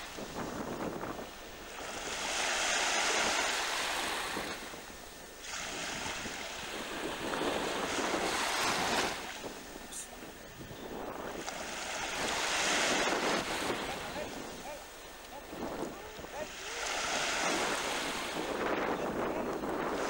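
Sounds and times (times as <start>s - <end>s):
choppy sea water: 0.0s - 20.0s
wind gusts on microphone: 0.0s - 20.0s.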